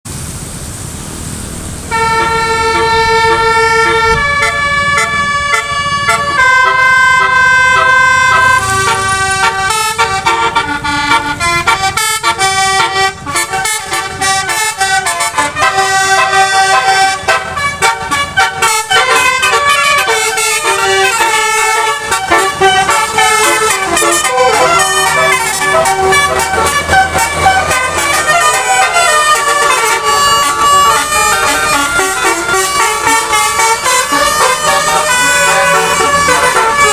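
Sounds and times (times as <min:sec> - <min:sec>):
multi-tone bus horns melody: 0:01.8 - 0:36.9.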